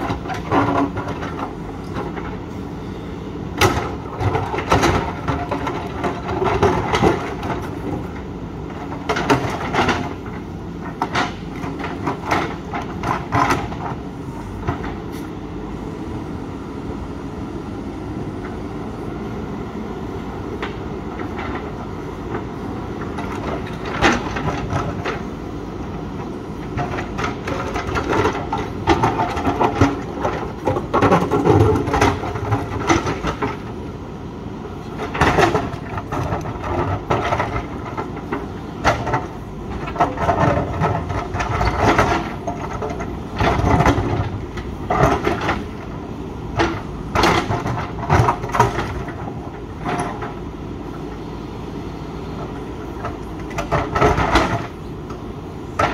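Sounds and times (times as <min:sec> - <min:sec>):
diesel engine working under load: 0:00.0 - 0:55.9.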